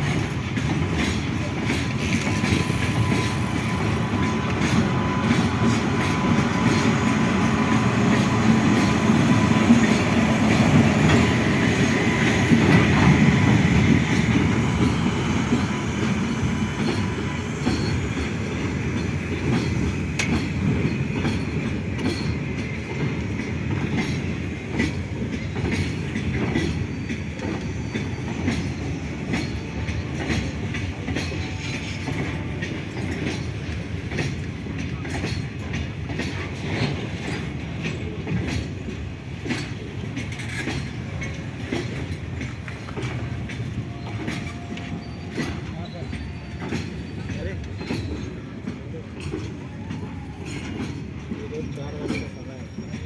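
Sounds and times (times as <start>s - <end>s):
train rumbling past: 0.0s - 53.0s
wheels clattering over rail joints: 0.0s - 53.0s.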